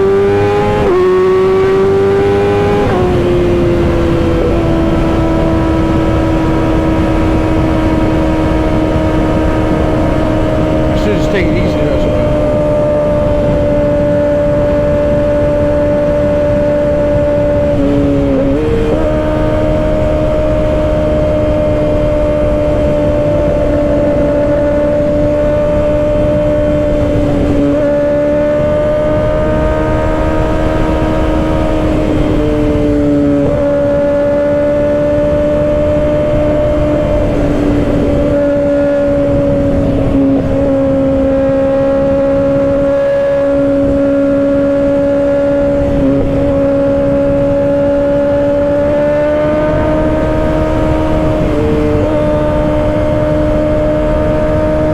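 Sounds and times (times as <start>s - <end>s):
motorcycle engine running high: 0.0s - 54.9s.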